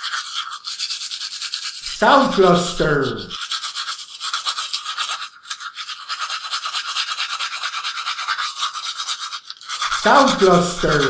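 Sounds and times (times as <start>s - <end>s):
toothbrush scrubbing teeth: 0.0s - 11.0s.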